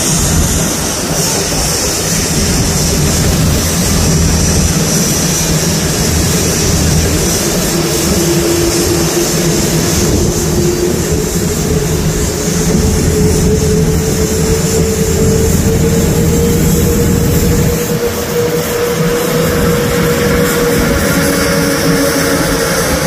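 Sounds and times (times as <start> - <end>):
jet engines rumbling with hiss: 0.0 - 23.0.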